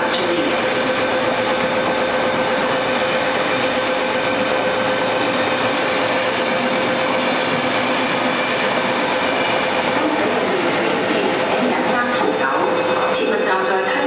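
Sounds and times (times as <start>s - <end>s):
train wheels rushing on rails: 0.0s - 14.0s.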